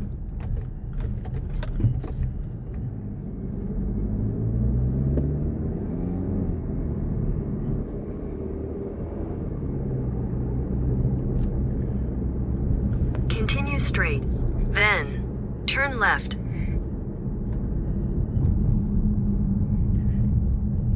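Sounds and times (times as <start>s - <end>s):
car engine from inside cabin: 0.0s - 20.9s.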